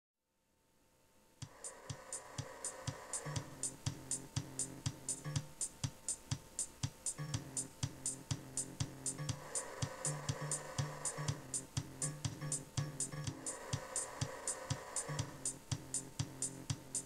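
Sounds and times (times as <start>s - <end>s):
electronic drum beat music: 1.4s - 17.0s.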